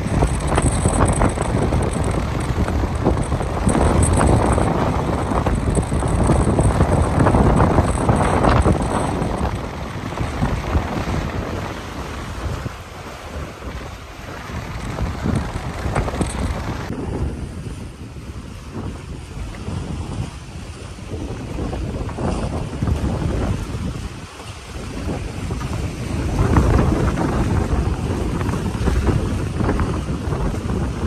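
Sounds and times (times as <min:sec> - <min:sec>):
small waves washing onto rocks: 0:00.0 - 0:31.0
wind buffeting microphone: 0:00.0 - 0:31.0.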